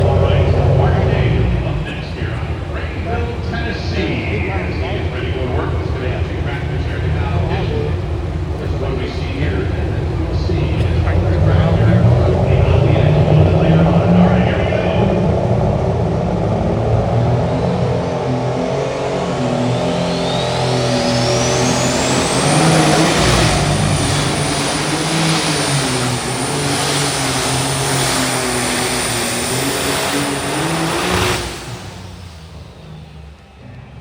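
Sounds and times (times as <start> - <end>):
diesel engine running hard: 0.0 - 34.0.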